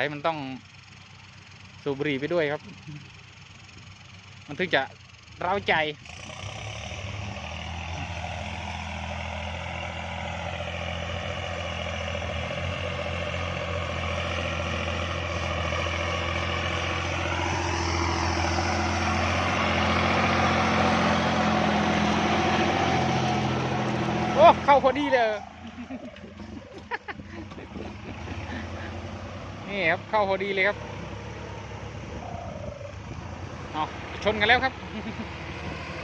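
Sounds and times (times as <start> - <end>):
engine whine: 0.0 - 36.0
tractor diesel engine running: 0.0 - 36.0.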